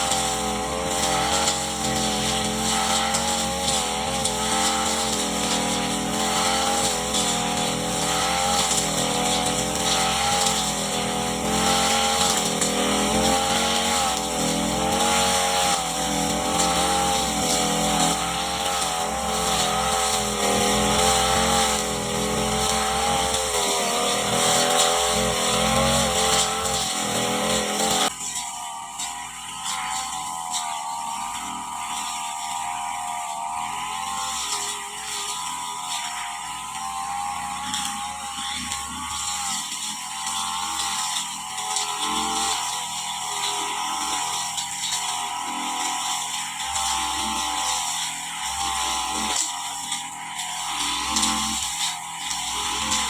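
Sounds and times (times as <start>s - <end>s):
brush cutter engine cutting grass: 0.0s - 53.0s.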